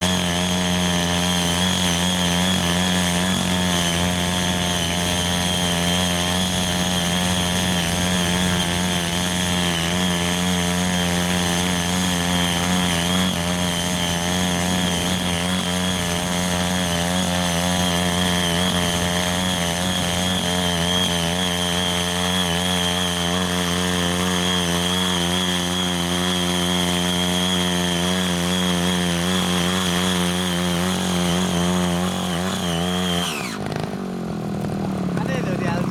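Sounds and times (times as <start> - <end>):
cultivator engine running: 0.0 - 35.9
tines tilling soil: 0.0 - 35.9.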